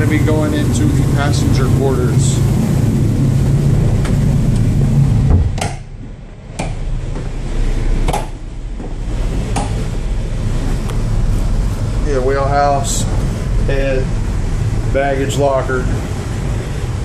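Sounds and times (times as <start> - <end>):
boat machinery hum: 0.0 - 17.0.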